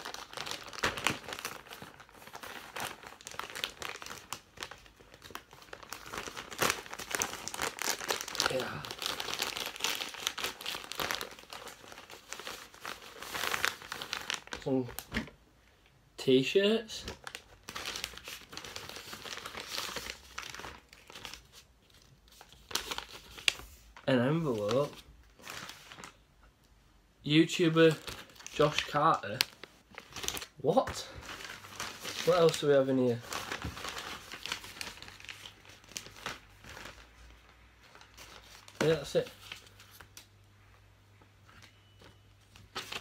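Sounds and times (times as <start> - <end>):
plastic bag crinkling and tearing: 0.0 - 15.4, 16.7 - 26.2, 27.5 - 40.3, 41.6 - 43.0.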